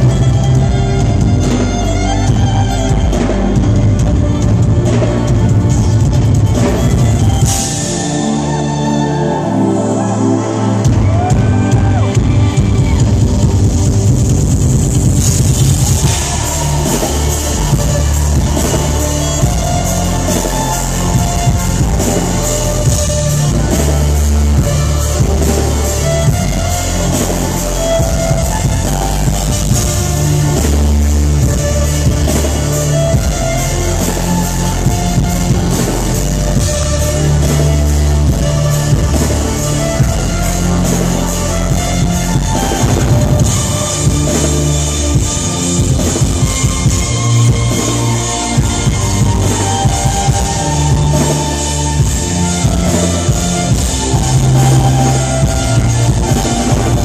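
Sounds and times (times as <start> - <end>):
driving drum beat: 0.0 - 9.2, 10.6 - 57.0
live concert music: 0.0 - 57.0.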